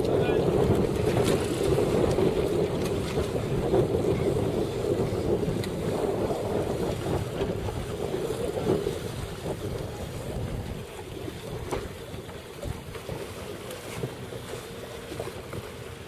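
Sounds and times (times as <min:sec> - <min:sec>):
water noise: 0:00.0 - 0:16.0
wind buffeting microphone: 0:00.0 - 0:16.0.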